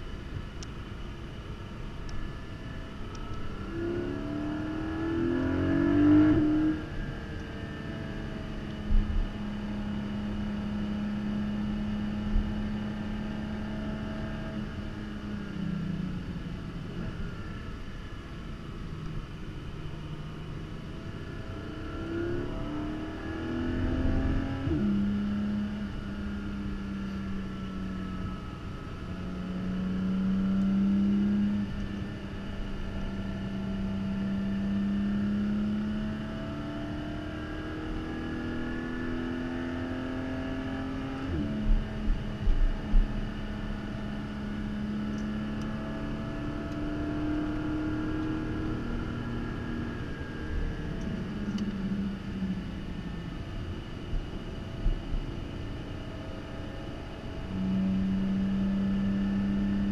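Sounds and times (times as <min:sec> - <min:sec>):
car engine accelerating: 0:01.8 - 0:59.9.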